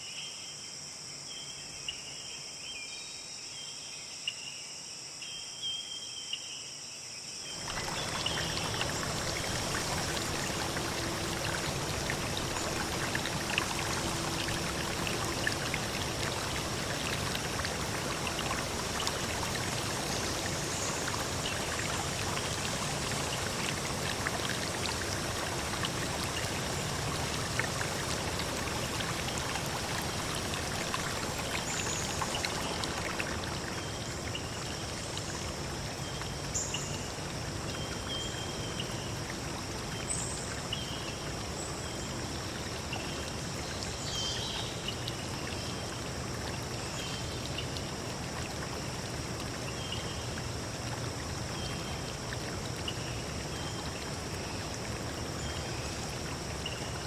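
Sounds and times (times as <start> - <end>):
faint high insect trill: 0.0 - 46.0
stream water running: 7.5 - 57.0.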